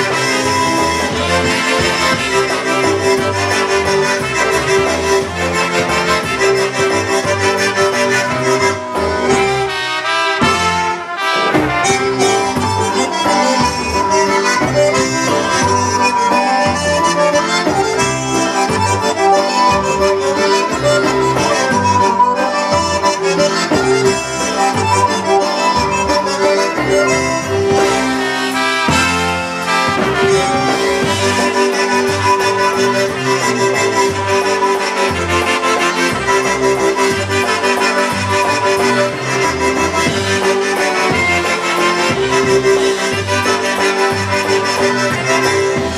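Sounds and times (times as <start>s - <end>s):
accordion: 0.0s - 45.9s
drums: 0.0s - 45.9s
electric bass: 0.0s - 45.9s
polka band playing: 0.0s - 45.9s
trumpets: 0.0s - 45.9s.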